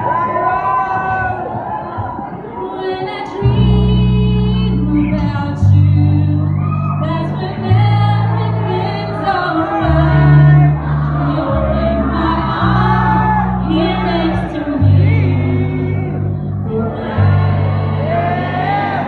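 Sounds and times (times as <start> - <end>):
woman singing into microphone: 2.6 - 19.0
low sustained bass notes: 3.5 - 19.0.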